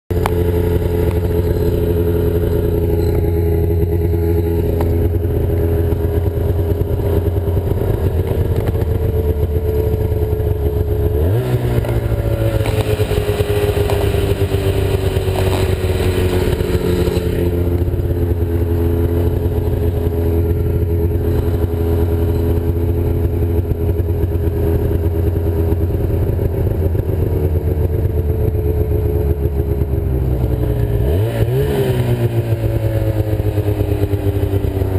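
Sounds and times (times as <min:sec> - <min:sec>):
snowmobile engine running: 0:00.1 - 0:34.9.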